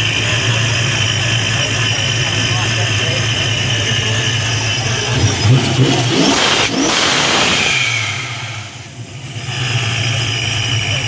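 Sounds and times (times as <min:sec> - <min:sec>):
engine revving and idling: 0:00.0 - 0:11.0
supercharger whine: 0:00.0 - 0:11.0.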